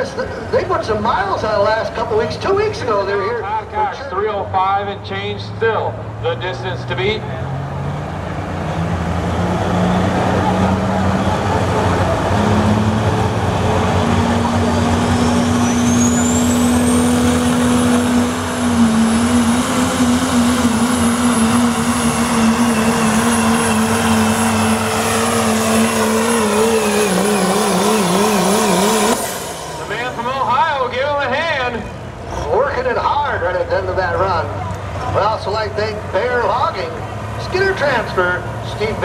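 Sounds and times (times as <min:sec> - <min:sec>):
diesel engine at full throttle: 0:00.0 - 0:39.0
turbocharger whining: 0:07.2 - 0:39.0.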